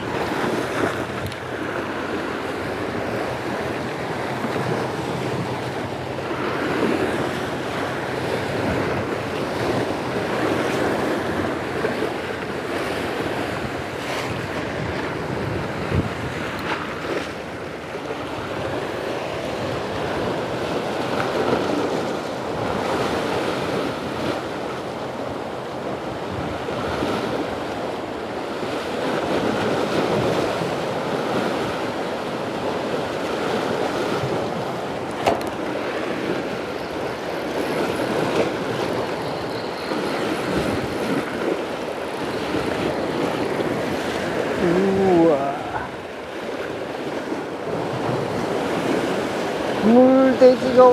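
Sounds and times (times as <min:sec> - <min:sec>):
wind buffeting microphone: 0:00.0 - 0:49.8
sea waves washing over rocks: 0:00.0 - 0:50.9.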